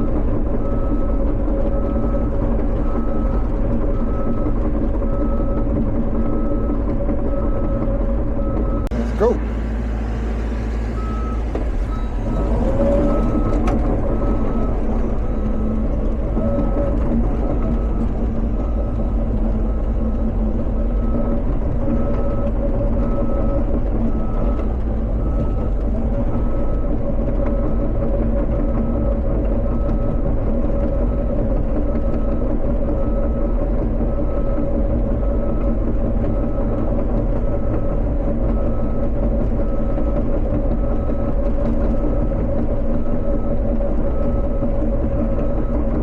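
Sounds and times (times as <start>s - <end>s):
excavator diesel engine: 0.0s - 46.0s.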